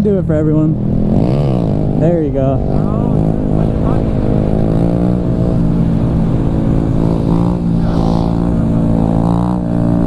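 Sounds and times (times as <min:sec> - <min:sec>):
small motorcycle engine running: 0:01.0 - 0:10.0.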